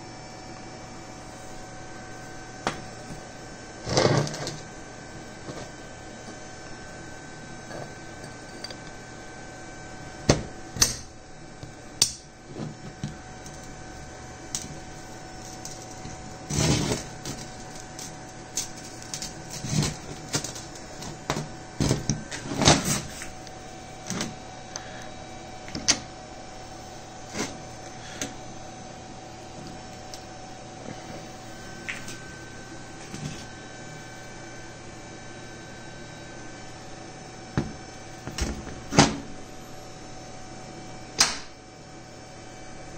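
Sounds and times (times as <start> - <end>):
steady background hum: 0.0 - 42.9.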